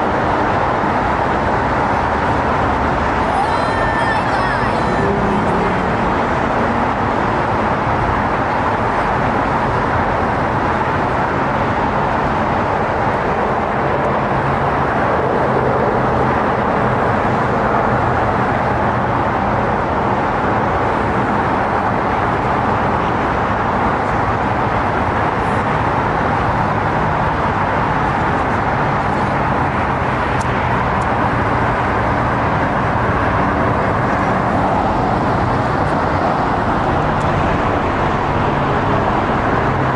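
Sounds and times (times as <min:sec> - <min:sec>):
city traffic rumble: 0:00.0 - 0:39.9.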